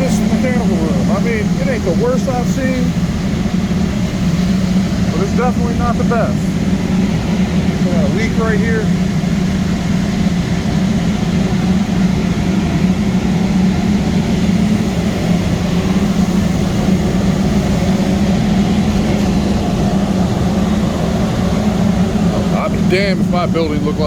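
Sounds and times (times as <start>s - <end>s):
boiler burner and blower drone: 0.0s - 24.0s.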